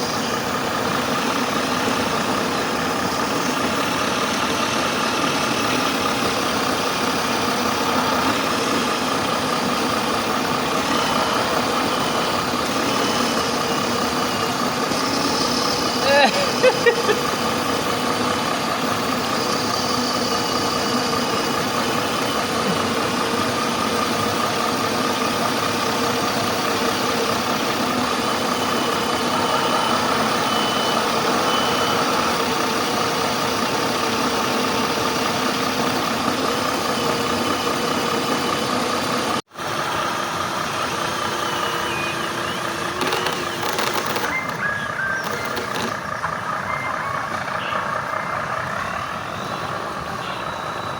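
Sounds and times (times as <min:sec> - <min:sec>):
truck engines under load: 0:00.0 - 0:50.9.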